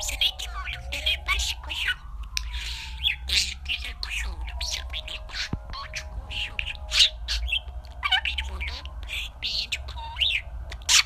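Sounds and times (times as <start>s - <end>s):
budgerigar chirping and squawking: 0.0s - 11.0s.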